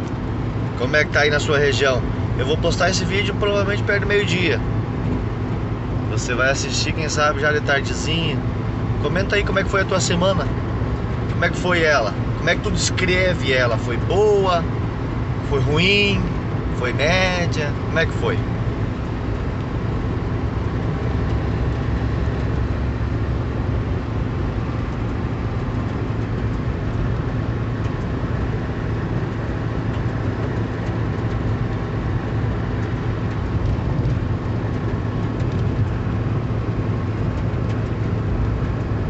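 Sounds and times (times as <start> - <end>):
truck engine and tyre drone: 0.0 - 39.0.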